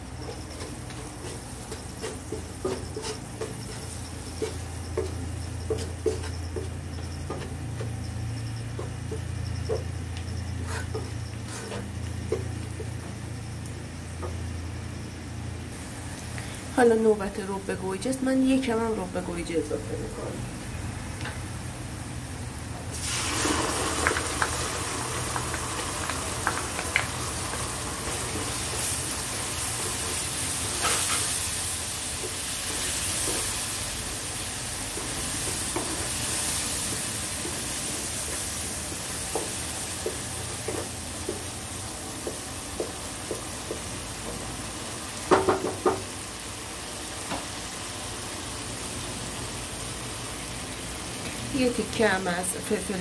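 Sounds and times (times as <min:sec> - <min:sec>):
onions sizzling in frying pan: 0:00.0 - 0:53.0.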